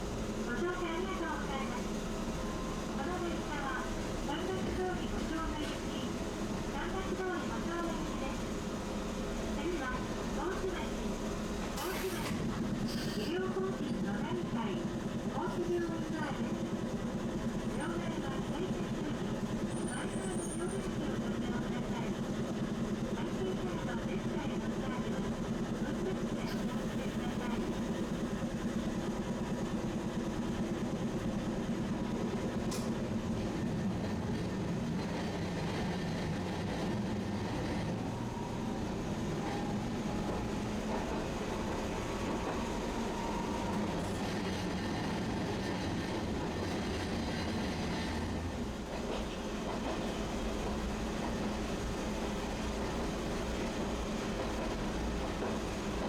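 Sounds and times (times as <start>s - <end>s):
streetcar rumbling on rails: 0.0s - 56.0s.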